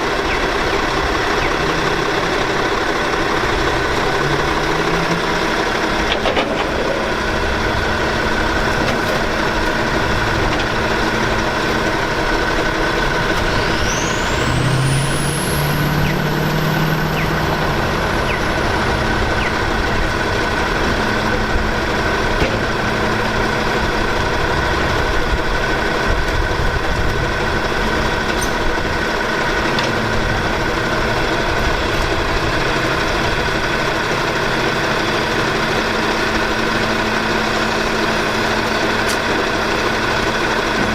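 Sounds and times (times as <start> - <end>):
garbage truck engine running: 0.0 - 40.9
steady high whine: 0.0 - 40.9.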